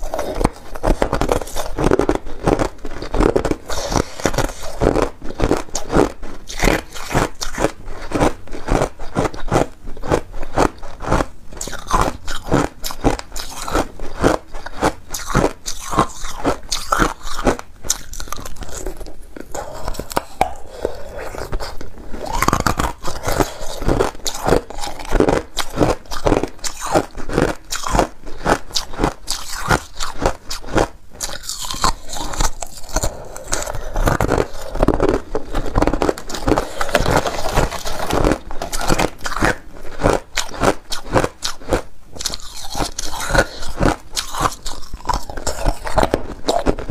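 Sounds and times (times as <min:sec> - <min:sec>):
ice crunching between teeth: 0:00.0 - 0:46.9.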